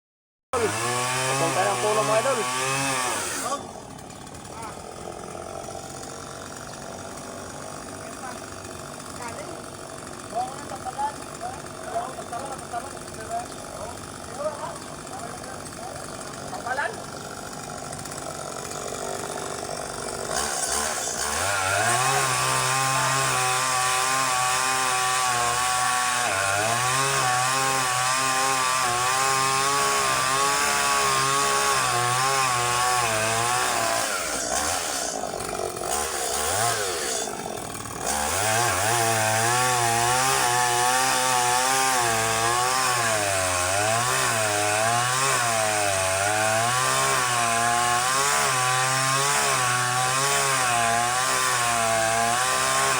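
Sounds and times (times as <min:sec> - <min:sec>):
chainsaw cutting: 0:00.6 - 0:52.9.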